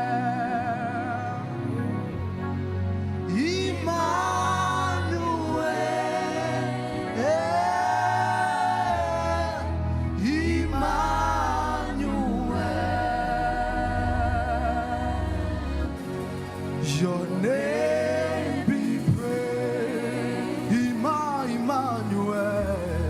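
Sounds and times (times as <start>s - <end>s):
voices singing gospel: 0.0s - 1.8s, 3.3s - 23.0s
instrumental backing with bass: 0.0s - 23.0s.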